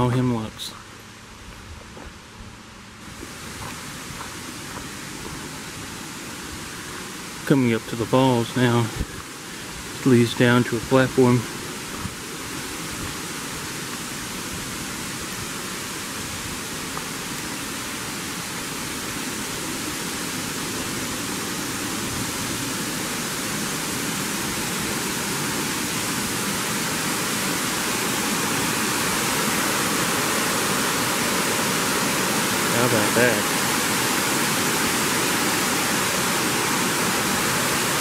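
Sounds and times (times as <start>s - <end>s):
waterfall rushing over rocks: 2.6s - 38.0s.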